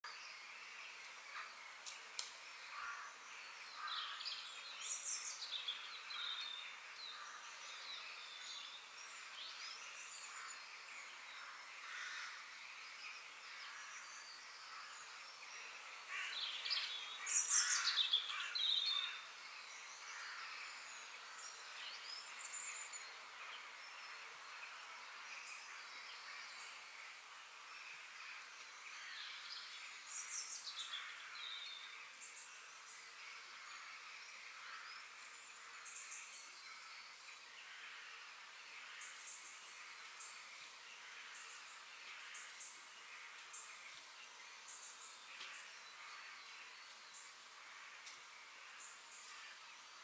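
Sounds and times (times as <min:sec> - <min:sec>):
songbirds chirping and trilling: 0:00.0 - 0:50.0
steady background hiss: 0:00.1 - 0:50.0.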